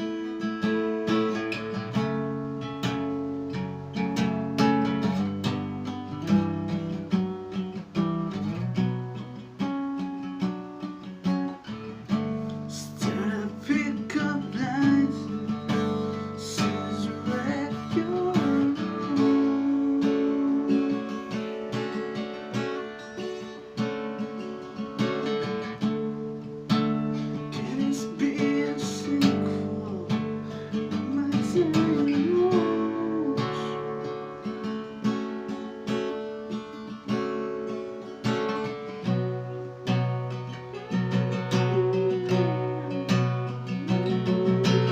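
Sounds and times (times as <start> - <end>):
acoustic guitar strumming and picking: 0.0 - 44.9.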